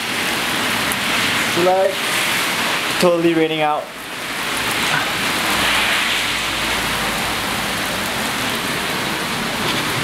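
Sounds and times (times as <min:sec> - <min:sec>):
heavy rain on pavement: 0:00.0 - 0:10.0.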